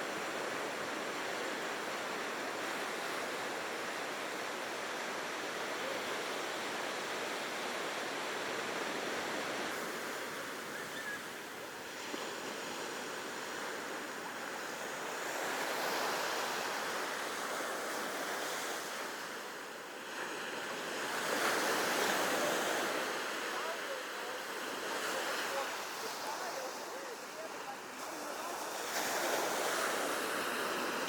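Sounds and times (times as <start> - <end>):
ocean surf breaking: 0.0 - 31.0.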